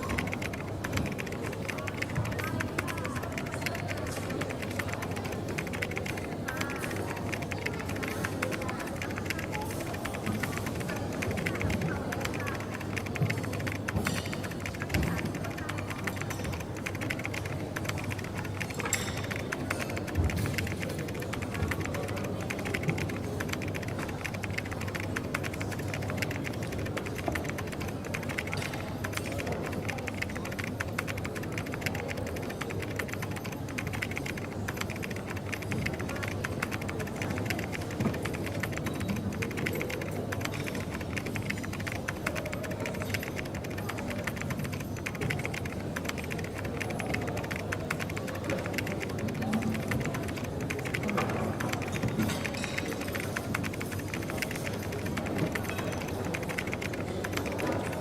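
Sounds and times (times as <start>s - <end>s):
background hum and murmur: 0.0s - 58.0s
small clicks and clatter: 0.0s - 58.0s.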